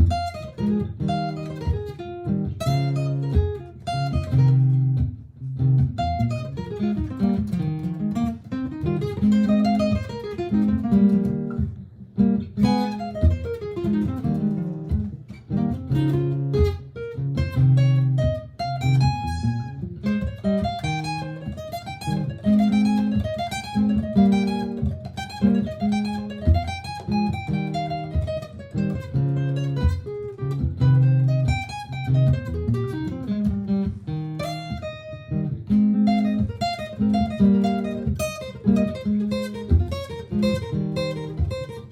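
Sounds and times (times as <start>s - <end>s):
looped acoustic guitar notes: 0.0s - 41.9s
picked acoustic guitar melody: 0.0s - 41.9s.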